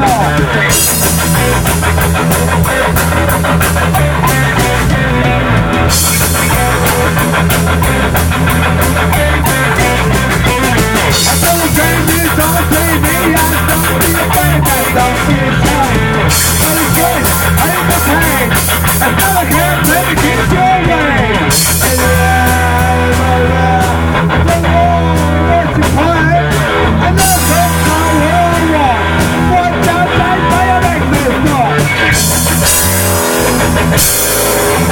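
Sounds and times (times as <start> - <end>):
electric guitar: 0.0 - 34.9
rock band playing loudly: 0.0 - 34.9.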